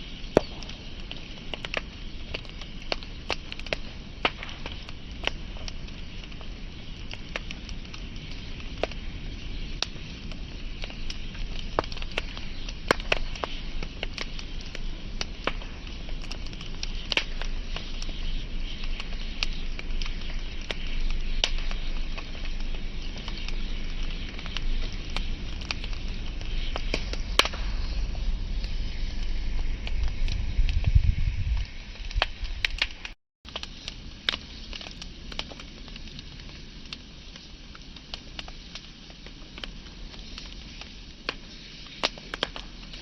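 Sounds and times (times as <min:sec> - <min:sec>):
flames hissing and rumbling: 0:00.0 - 0:43.0
wood fire crackling: 0:00.0 - 0:43.0.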